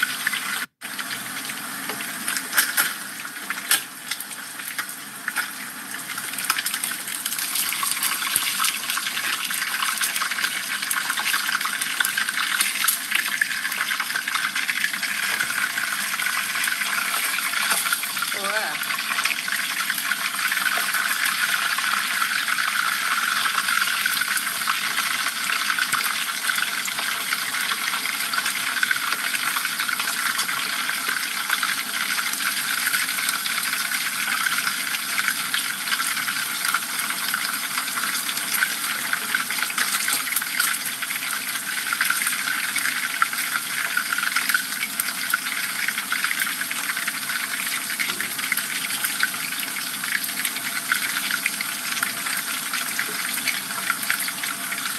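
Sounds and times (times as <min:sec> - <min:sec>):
fish deep-frying in hot oil: 0:00.0 - 0:54.9.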